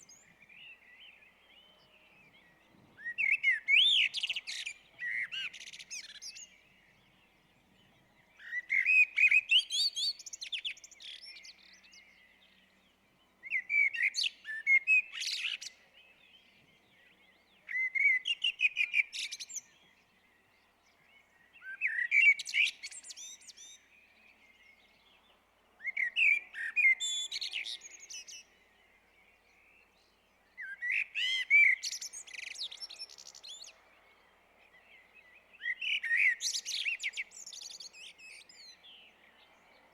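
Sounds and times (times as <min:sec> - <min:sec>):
blackbird singing: 0:00.0 - 0:39.9.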